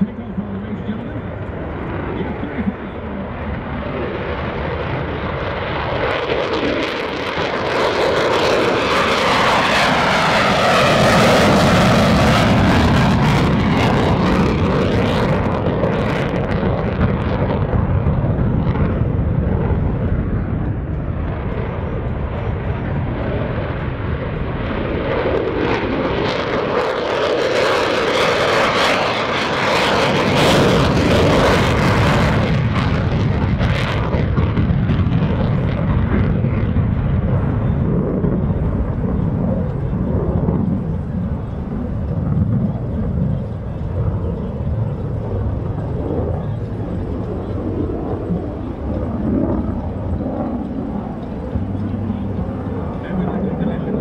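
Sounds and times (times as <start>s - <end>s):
jet engine afterburner roar: 0.0s - 54.0s.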